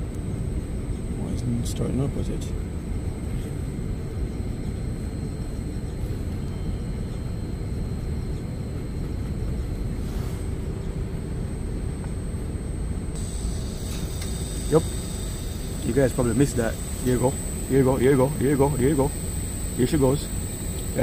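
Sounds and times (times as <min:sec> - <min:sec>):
faint steady hum: 0:00.0 - 0:21.0
low outdoor rumble: 0:00.0 - 0:21.0.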